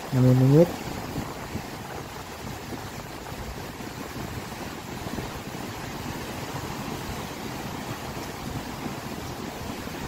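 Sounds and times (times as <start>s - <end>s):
river rushing: 0.0s - 10.0s
wind buffeting microphone: 0.0s - 10.0s.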